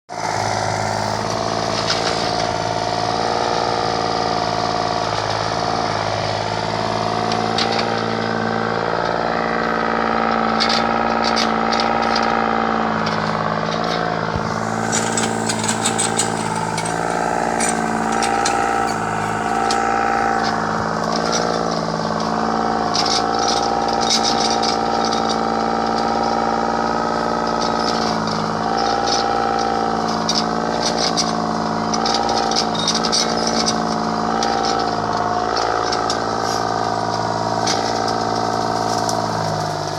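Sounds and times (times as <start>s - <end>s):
diesel engine running: 0.0s - 39.9s
hydraulic whine: 0.0s - 39.9s.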